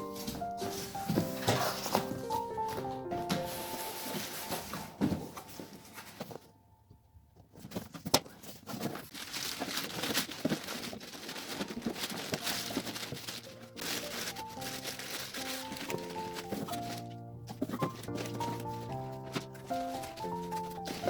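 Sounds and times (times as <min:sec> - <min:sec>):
packaging rustling and crinkling: 0:00.0 - 0:06.6, 0:07.4 - 0:21.0.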